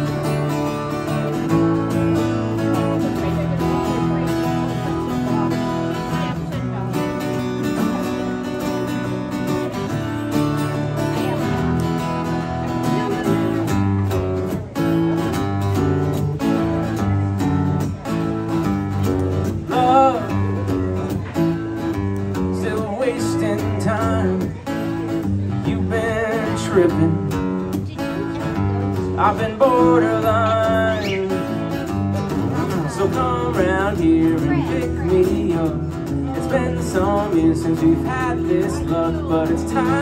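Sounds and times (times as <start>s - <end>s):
live band playing: 0.0s - 40.0s
strummed acoustic guitar: 0.0s - 40.0s.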